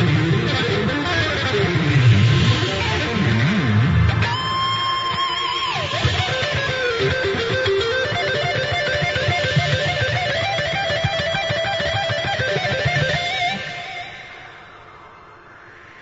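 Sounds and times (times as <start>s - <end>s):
guitar melody over steady beat: 0.0s - 14.7s.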